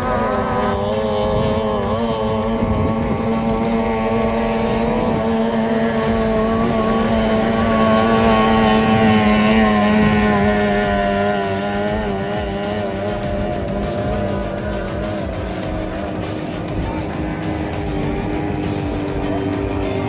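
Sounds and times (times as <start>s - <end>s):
outboard engine at high revs: 0.0s - 20.0s.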